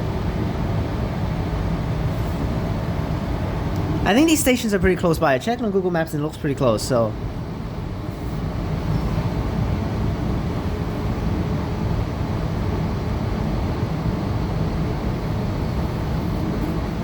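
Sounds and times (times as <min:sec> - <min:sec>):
track and air hiss: 0:01.4 - 0:16.9.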